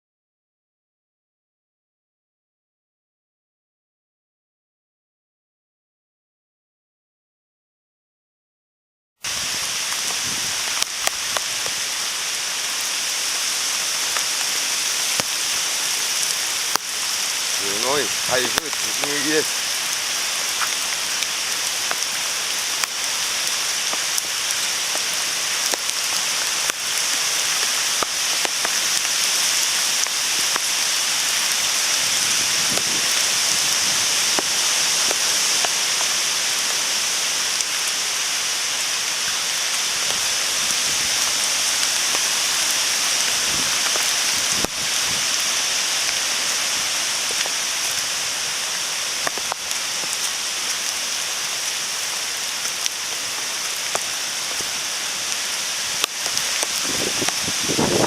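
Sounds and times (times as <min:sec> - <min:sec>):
steady rain falling: 0:09.2 - 0:58.0.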